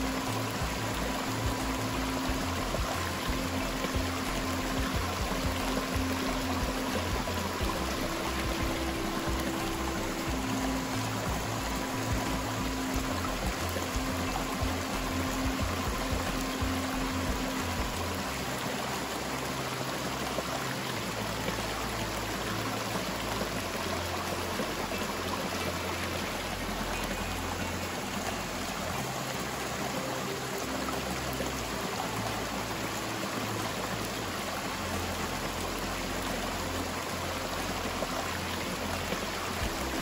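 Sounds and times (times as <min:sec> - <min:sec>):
river water rushing over rocks: 0:00.0 - 0:40.0.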